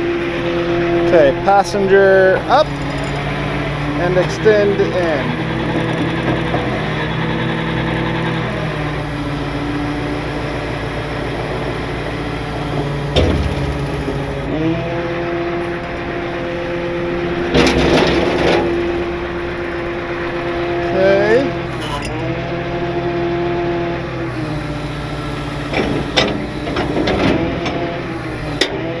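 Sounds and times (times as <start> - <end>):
truck engine under load: 0.0 - 29.0.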